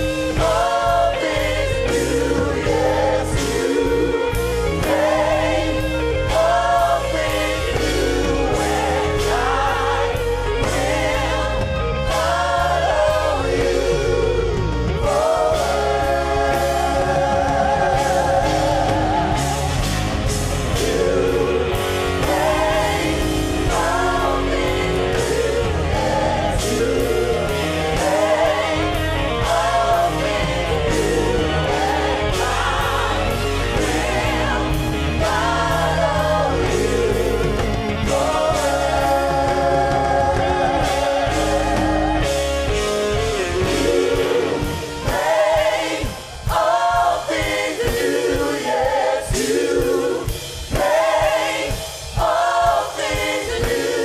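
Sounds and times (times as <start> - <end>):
band playing: 0.0 - 54.0
gospel choir singing: 0.0 - 54.0.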